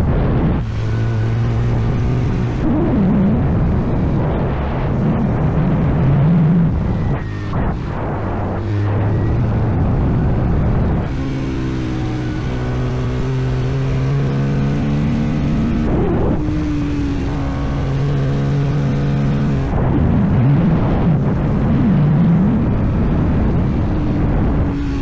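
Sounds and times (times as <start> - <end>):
rough rushing noise: 0.0 - 25.0.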